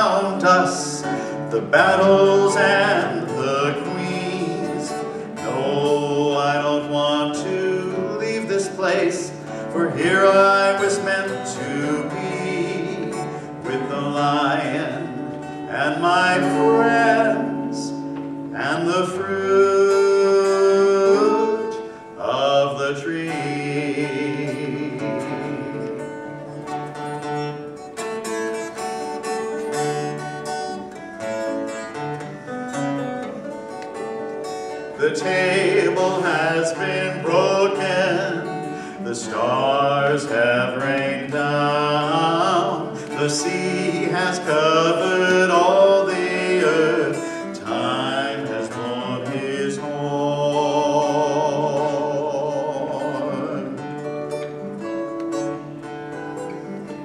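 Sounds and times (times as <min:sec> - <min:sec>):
person singing: 0:00.0 - 0:26.6, 0:35.0 - 0:54.2
acoustic guitar: 0:00.0 - 0:57.0.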